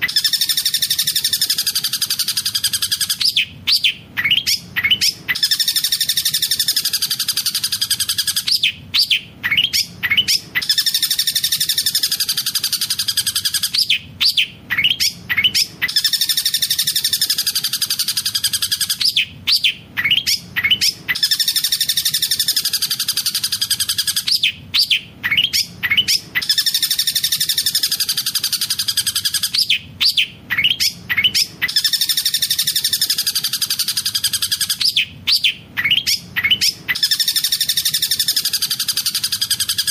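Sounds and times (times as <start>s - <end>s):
shrike singing: 0.0s - 39.9s.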